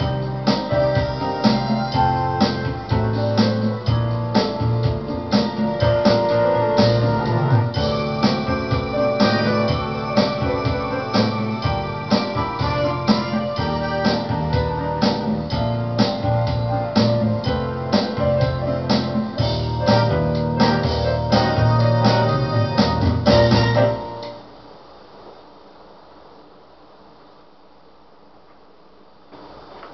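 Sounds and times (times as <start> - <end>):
drum kit beat: 0.0 - 24.4
keyboard chords: 0.0 - 24.4.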